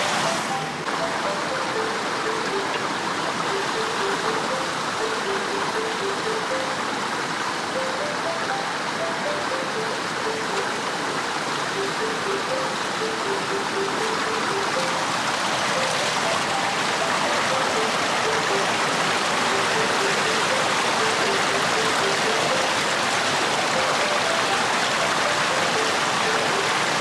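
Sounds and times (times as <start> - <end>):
water rushing through gate: 0.0 - 27.0.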